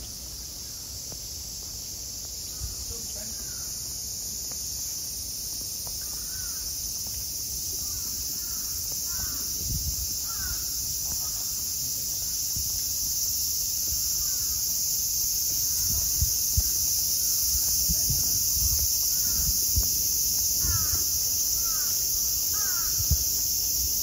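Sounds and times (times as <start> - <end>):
cicadas shrilling: 0.0 - 24.0.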